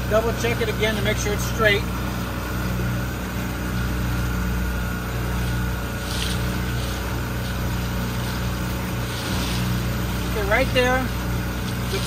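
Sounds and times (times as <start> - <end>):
outboard motor running: 0.0 - 12.0
water rushing from wake: 0.0 - 12.0.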